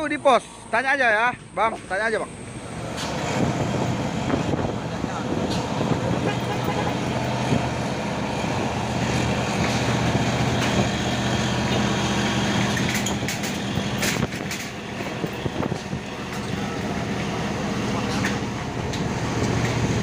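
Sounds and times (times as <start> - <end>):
truck diesel engine running: 0.0 - 20.0.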